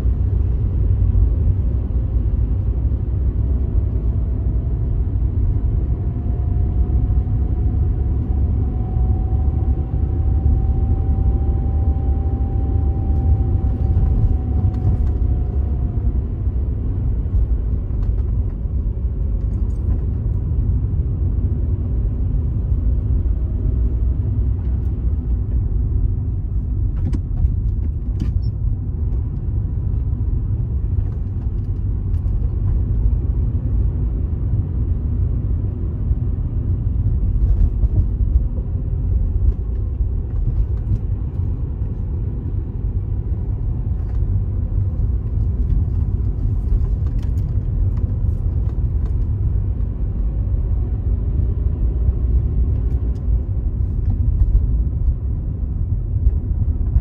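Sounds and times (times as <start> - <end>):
car driving on street: 0.0 - 57.0.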